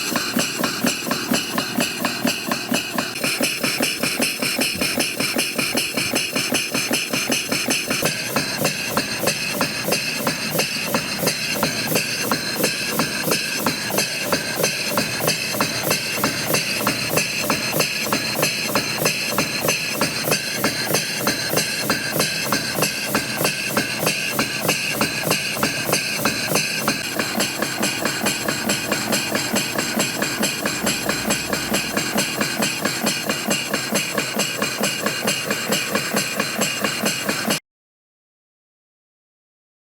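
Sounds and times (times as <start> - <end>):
air engine exhaust puffs: 0.0 - 37.6
mechanical clatter: 0.0 - 37.6.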